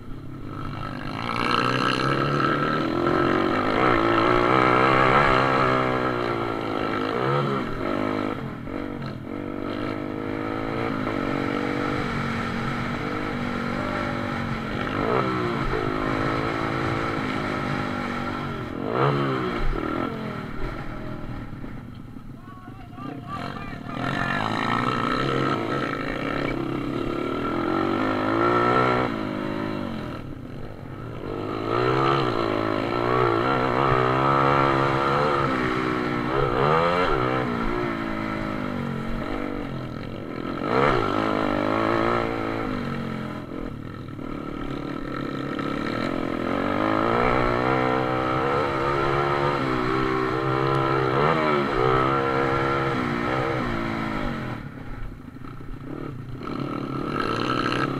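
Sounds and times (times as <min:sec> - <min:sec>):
motorbike engines revving: 0:00.0 - 0:57.9.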